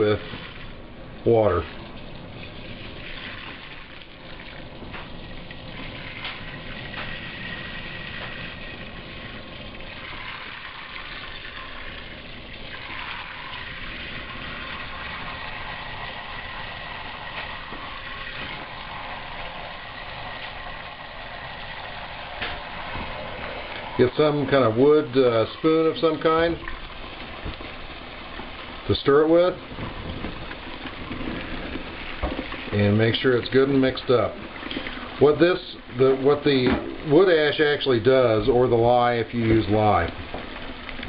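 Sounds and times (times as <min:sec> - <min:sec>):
water running from tap into kettle: 0:00.0 - 0:41.0.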